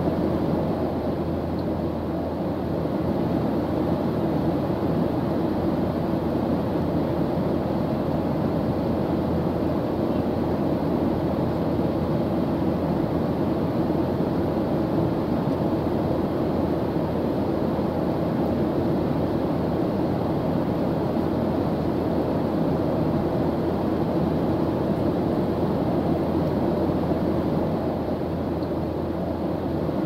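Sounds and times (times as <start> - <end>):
jet cabin engine and airflow rush: 0.0 - 30.0.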